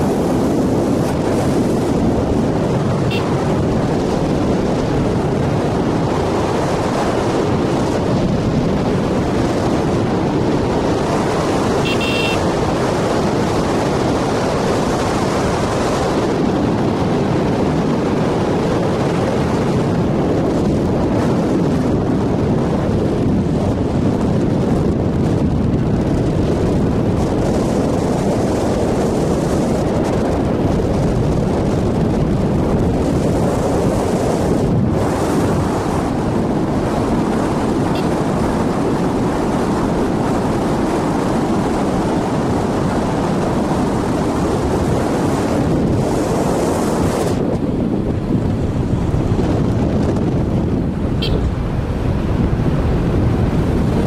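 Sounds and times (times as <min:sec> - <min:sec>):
motorcycle running: 0:00.0 - 0:54.0
wind rushing on microphone: 0:00.0 - 0:54.0.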